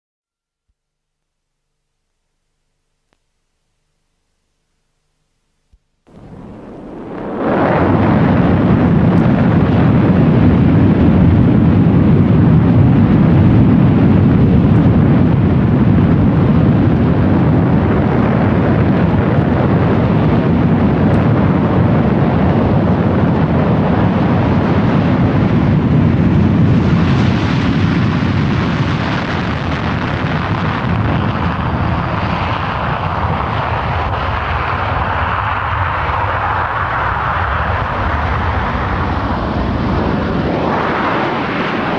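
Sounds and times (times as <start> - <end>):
jet engine roar: 6.1 - 41.9.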